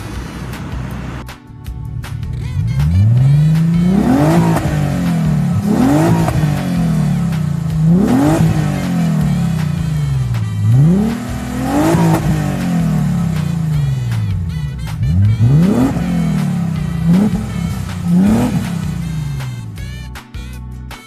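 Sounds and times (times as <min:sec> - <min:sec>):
engine revving: 0:00.0 - 0:01.4, 0:02.0 - 0:20.1.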